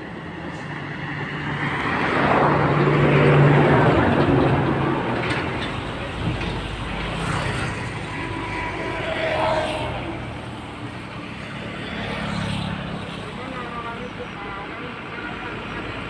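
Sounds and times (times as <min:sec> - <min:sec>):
tyre noise on road: 0:00.0 - 0:16.0
vehicle engine hum: 0:00.0 - 0:16.0.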